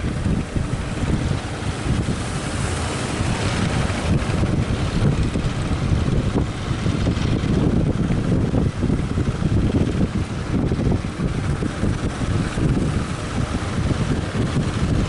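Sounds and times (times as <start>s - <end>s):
boat noise: 0.0s - 15.0s
wind buffeting microphone: 0.0s - 15.0s.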